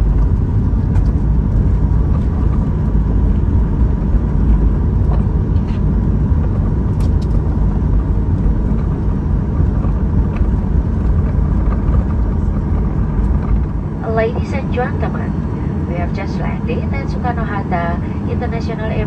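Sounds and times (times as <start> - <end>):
airplane cabin rumble: 0.0 - 19.0
faint steady whine: 0.0 - 19.0.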